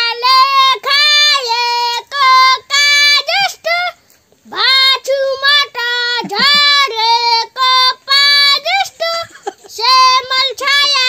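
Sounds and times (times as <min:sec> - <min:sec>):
child singing unaccompanied: 0:00.0 - 0:11.0.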